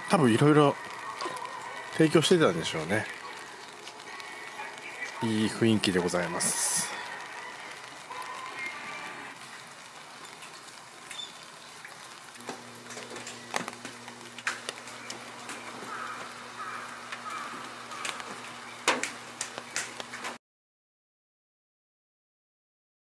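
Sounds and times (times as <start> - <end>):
rainwater drips: 0.0 - 20.4.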